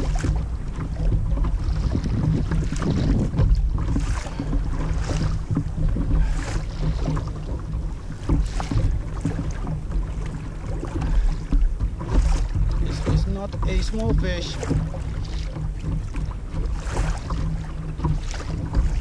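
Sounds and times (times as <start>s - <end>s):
water slapping kayak hull: 0.0s - 19.0s
wind buffeting microphone: 0.0s - 19.0s.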